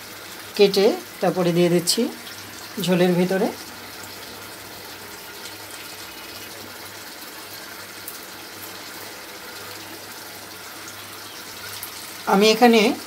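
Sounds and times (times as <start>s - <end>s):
curry simmering in a pan: 0.0s - 13.0s.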